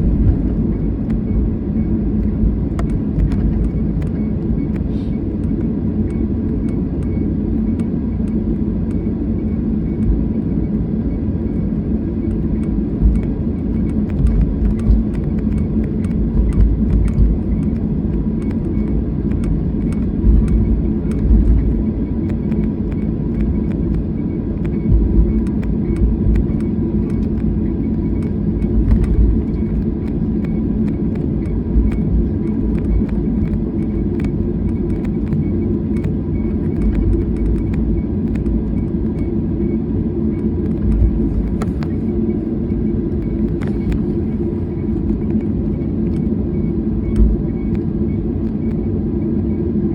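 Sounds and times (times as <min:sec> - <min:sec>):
airliner engine and airflow rumble: 0:00.0 - 0:49.9
faint steady hum: 0:00.0 - 0:49.9.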